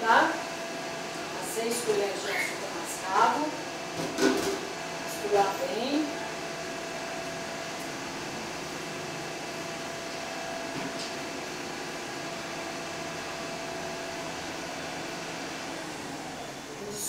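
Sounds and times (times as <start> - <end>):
machine hum with faint whir: 0.0 - 17.0.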